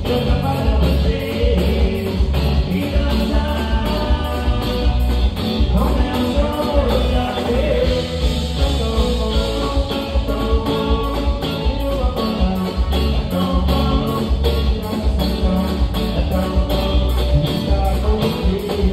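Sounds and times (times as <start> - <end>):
bass: 0.0 - 18.9
electric guitar: 0.0 - 18.9
man singing into microphone: 0.0 - 18.9
steady drum beat: 0.0 - 18.9.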